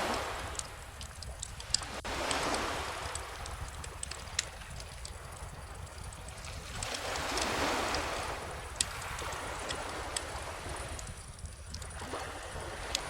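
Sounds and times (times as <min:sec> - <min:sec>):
bonfire crackling: 0:00.0 - 0:13.0
ocean waves: 0:00.0 - 0:13.0.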